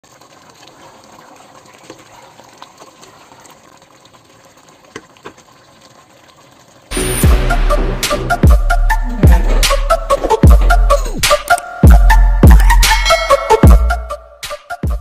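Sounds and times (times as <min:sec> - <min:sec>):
stew bubbling: 0:00.0 - 0:07.5, 0:08.2 - 0:12.8.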